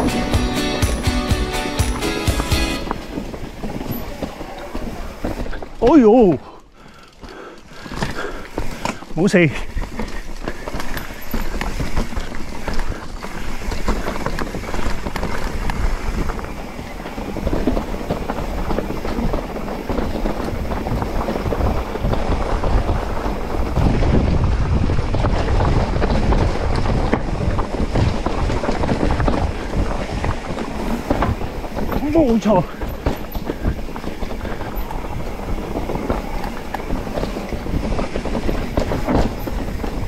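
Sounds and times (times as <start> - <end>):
bike rattling and knocking: 0.0 - 40.0
tyres on loose ground: 0.0 - 40.0
wind buffeting microphone: 2.3 - 40.0.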